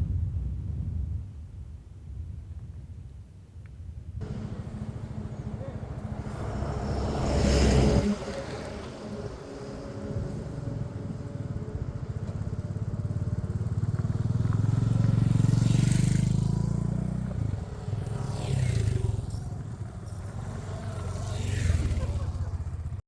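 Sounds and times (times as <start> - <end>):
motorcycle engine running: 4.2 - 23.0.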